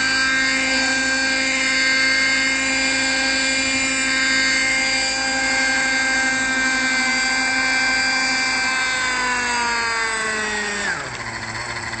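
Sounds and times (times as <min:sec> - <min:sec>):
model helicopter rotor whining: 0:00.0 - 0:12.0.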